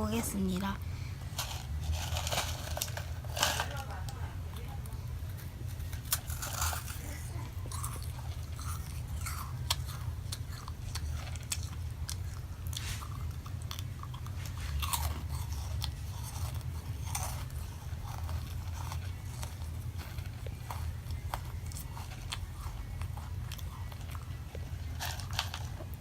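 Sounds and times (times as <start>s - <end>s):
crunchy cookies being chewed: 0.1s - 26.0s.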